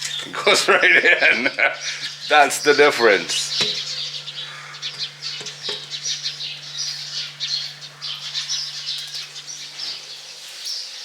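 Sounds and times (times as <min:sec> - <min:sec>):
steady low hum: 0:00.0 - 0:10.4
birds chirping: 0:00.0 - 0:11.0.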